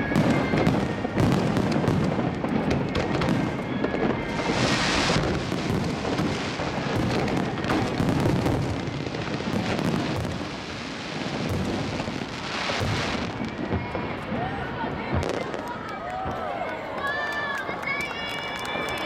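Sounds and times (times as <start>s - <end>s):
fountain fireworks hissing: 0.0s - 15.8s
fireworks bursting and crackling: 0.0s - 19.0s.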